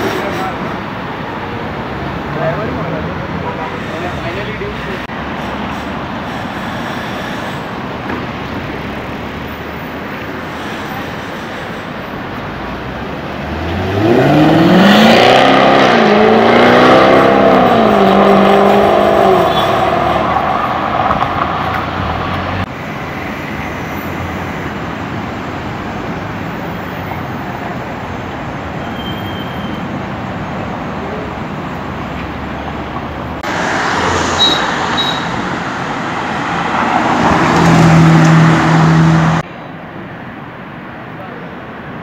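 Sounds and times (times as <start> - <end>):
cars driving past: 0.0 - 39.8.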